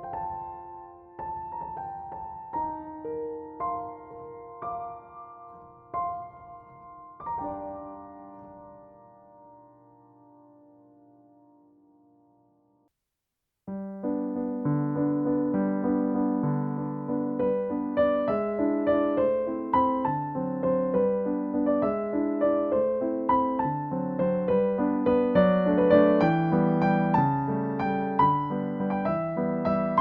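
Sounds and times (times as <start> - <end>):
gentle piano melody: 0.0 - 12.8, 13.7 - 30.0.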